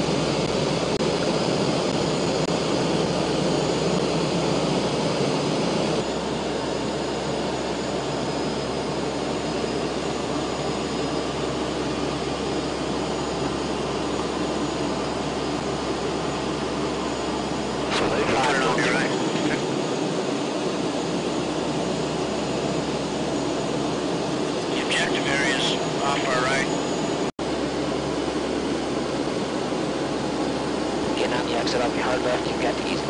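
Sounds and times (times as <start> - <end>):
aircraft engines droning: 0.0 - 33.0.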